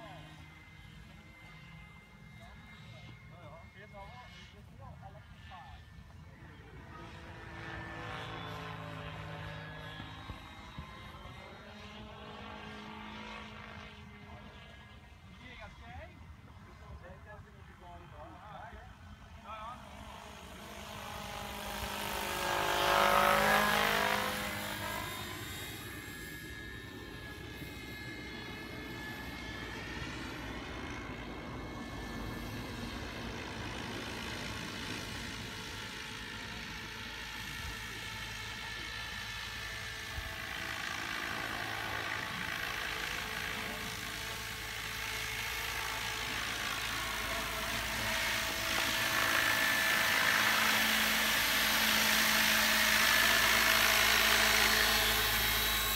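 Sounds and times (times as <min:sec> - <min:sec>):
model helicopter rotor whine: 0:00.0 - 0:55.9.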